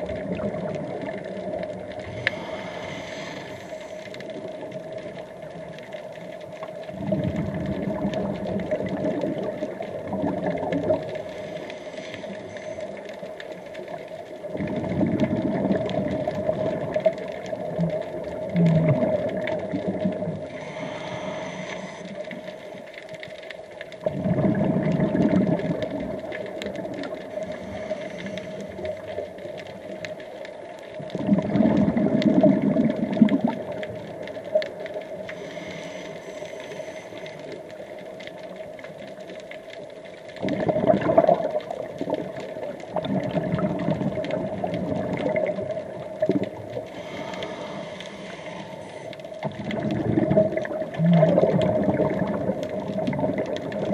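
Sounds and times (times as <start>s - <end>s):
diver's bubbles underwater: 0.0s - 53.9s.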